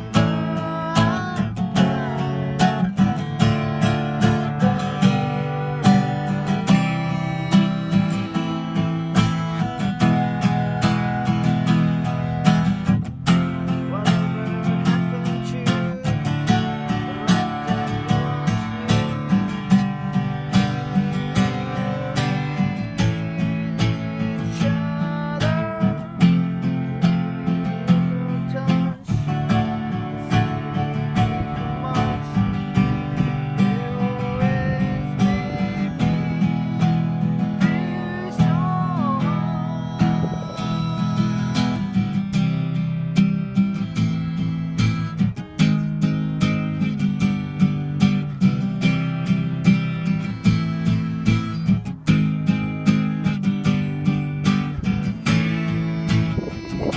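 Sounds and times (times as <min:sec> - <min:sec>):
acoustic guitar strummed and picked: 0:00.0 - 0:56.9.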